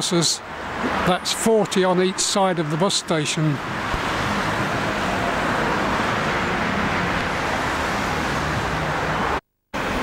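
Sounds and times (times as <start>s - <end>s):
low engine hum of vehicles: 0.0s - 10.0s
road traffic hiss: 0.0s - 10.0s.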